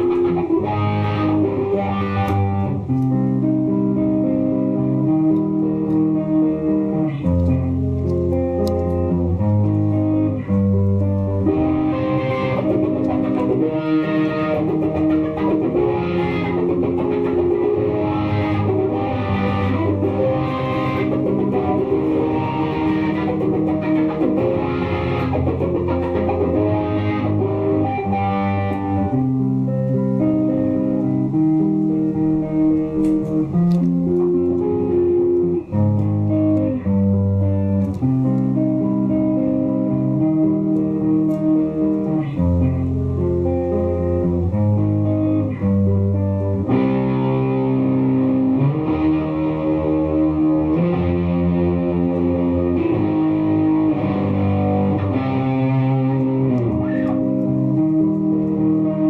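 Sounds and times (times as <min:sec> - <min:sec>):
electric guitar with wah pedal: 0:00.0 - 0:59.0.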